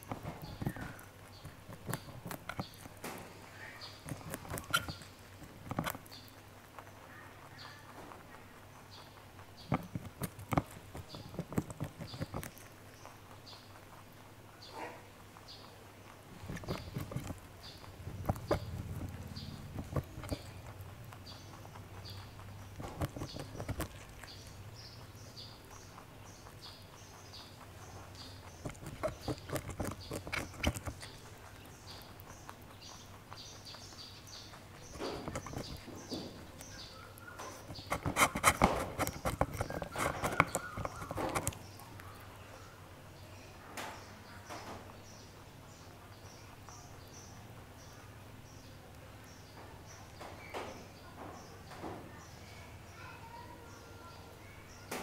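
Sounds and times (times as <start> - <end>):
rabbit crunching vegetable: 0.0 - 52.3.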